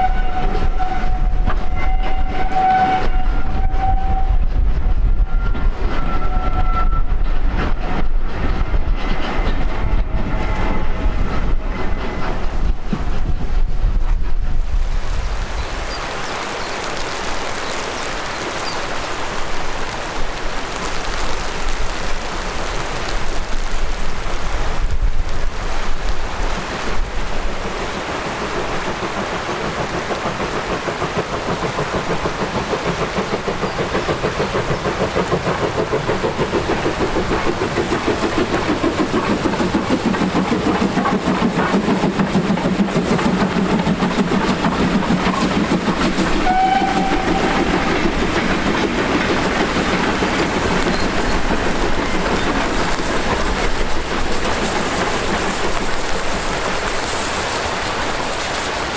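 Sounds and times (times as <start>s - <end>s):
wind buffeting microphone: 0.0s - 17.6s, 19.3s - 58.8s
steam locomotive exhaust beats: 0.0s - 58.9s.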